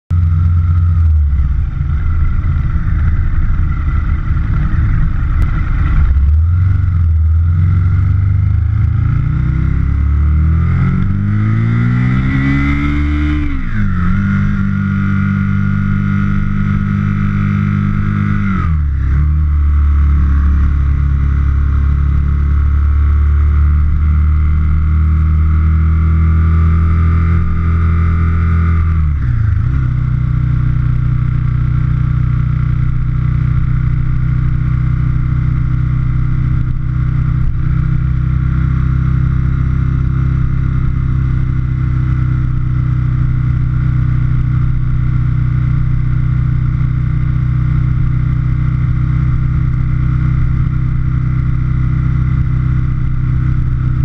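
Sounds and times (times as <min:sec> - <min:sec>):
motorcycle engine revving: 0:00.1 - 0:54.0.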